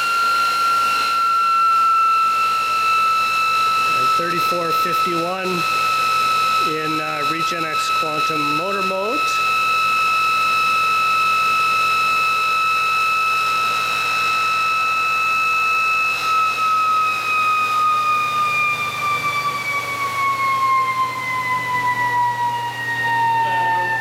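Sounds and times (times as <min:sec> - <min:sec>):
high-pitched motor whine: 0:00.0 - 0:24.0.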